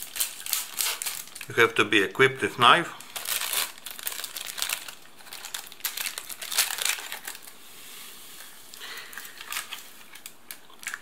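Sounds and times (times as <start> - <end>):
foil sachet crinkling: 0.0 - 7.6, 8.4 - 11.0.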